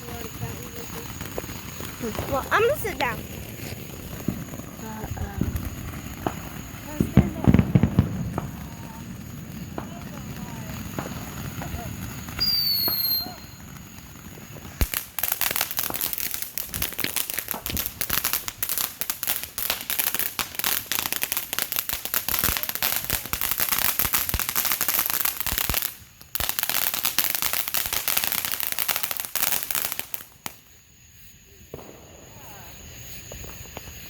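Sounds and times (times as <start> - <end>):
fireworks crackling: 0.0 - 34.0.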